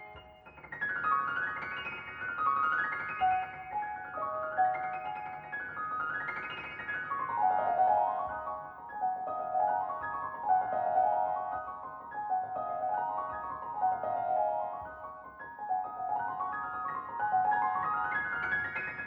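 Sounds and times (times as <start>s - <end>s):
solo piano arpeggios: 0.0s - 19.0s.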